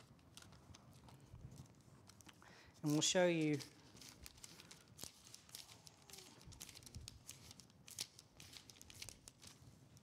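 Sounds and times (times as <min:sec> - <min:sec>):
thin pages being turned: 0:00.0 - 0:10.0.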